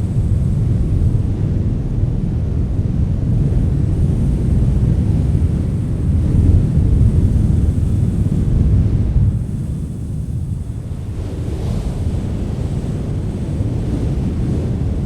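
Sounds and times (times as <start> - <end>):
wind rumbling: 0.0 - 15.0.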